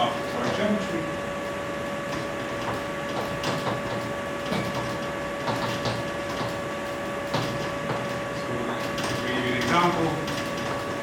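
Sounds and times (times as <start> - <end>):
steady electrical whine: 0.0 - 11.0.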